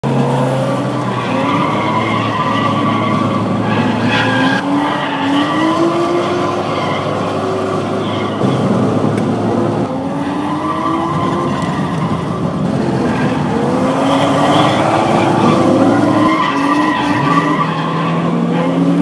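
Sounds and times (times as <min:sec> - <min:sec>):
car engine revving: 0:00.0 - 0:19.0
tyres squealing: 0:01.0 - 0:08.8, 0:10.1 - 0:18.8.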